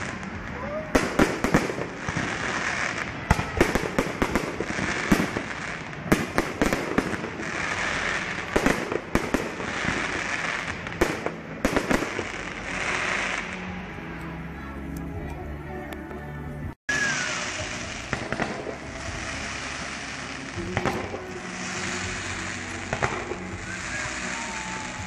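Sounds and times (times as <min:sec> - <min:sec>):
fireworks bursting with sharp bangs: 0:00.0 - 0:14.1, 0:16.9 - 0:25.0
fireworks crackling: 0:00.0 - 0:25.0.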